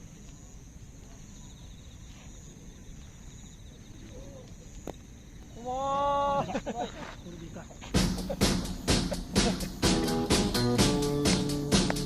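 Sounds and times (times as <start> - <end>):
fast pulsing insect trill: 0.0 - 12.0
insects trilling: 0.0 - 12.0.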